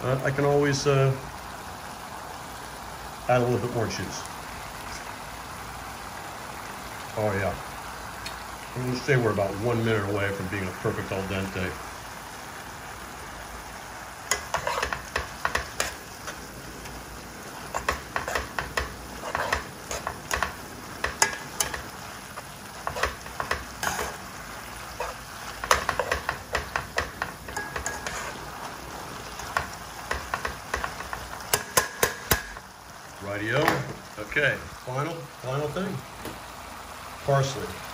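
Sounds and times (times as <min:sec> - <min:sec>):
skillet sizzling: 0:00.0 - 0:37.9.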